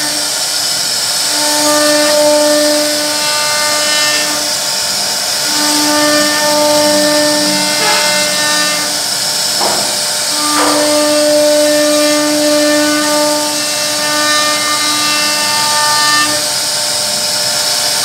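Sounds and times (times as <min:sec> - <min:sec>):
cnc router carving wood: 0:00.0 - 0:18.0.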